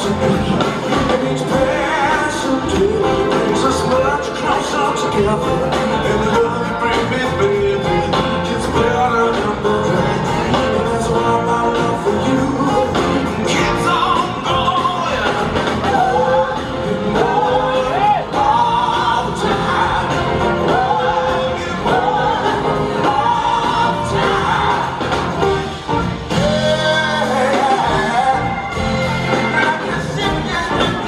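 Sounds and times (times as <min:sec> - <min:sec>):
backing singers: 0:00.0 - 0:31.0
horn section: 0:00.0 - 0:31.0
live band playing soul rock: 0:00.0 - 0:31.0
man singing lead vocal: 0:00.0 - 0:31.0.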